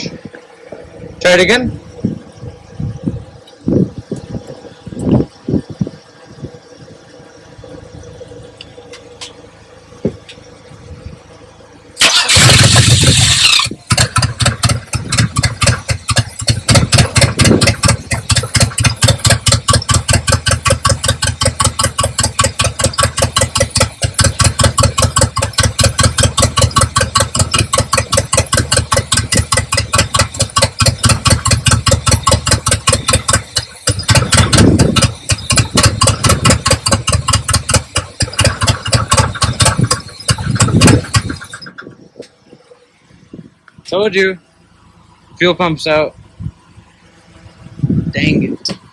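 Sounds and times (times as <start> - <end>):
car engine starting and idling: 0.0 - 48.9.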